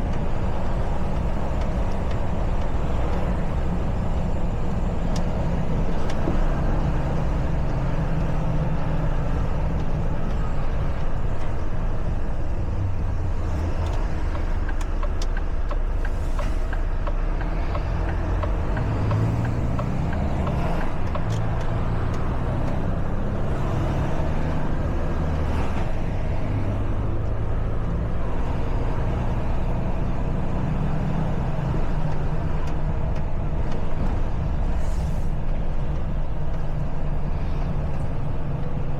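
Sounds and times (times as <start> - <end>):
road noise: 0.0 - 38.9.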